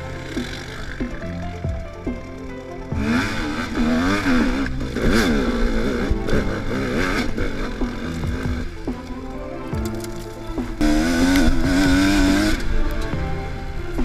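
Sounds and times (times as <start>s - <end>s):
bike knocking: 0.0s - 13.3s
dirt bike engine revving: 0.0s - 14.0s.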